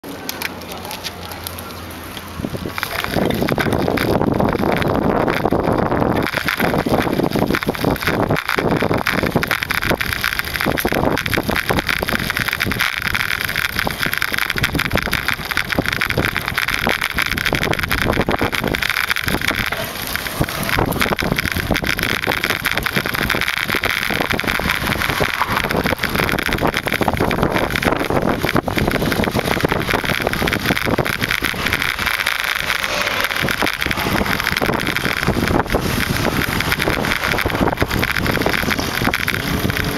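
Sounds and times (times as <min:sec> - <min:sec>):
rolling road noise: 0:00.0 - 0:39.9
wind buffeting microphone: 0:02.2 - 0:39.9.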